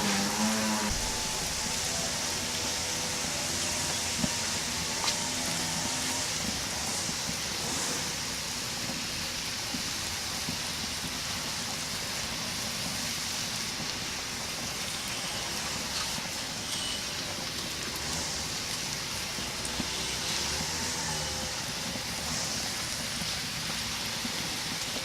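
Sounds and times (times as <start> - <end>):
food sizzling on a grill: 0.0 - 25.0.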